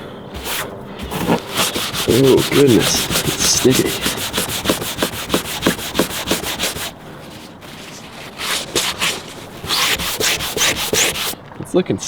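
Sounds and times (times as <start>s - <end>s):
scrubbing on painted metal: 0.0s - 11.4s.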